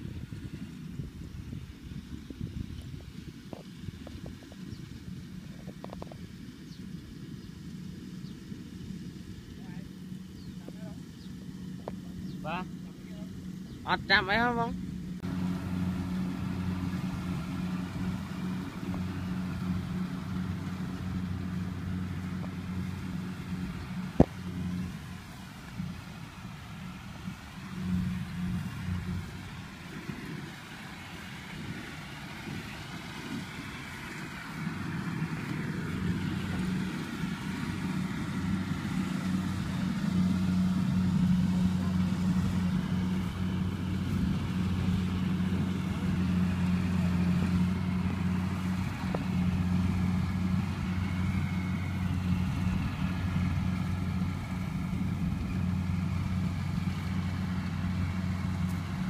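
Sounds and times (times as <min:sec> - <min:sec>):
distant harvester engine hum: 0:00.0 - 0:59.0.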